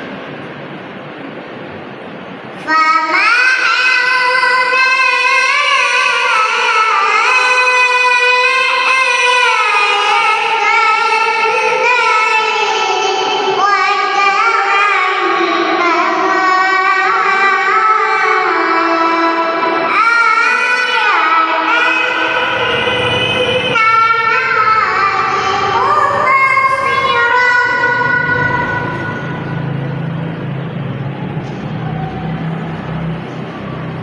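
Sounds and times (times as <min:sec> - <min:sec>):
girl reciting melodically: 0:02.5 - 0:30.9.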